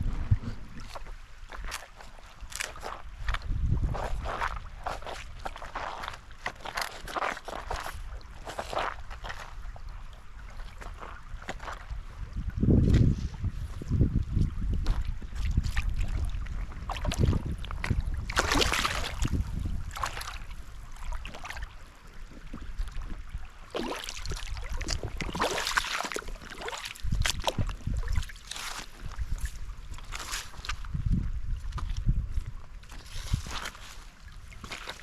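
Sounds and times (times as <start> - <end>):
feet wading through water: 0.0 - 35.0
wind rumble on microphone: 0.0 - 35.0.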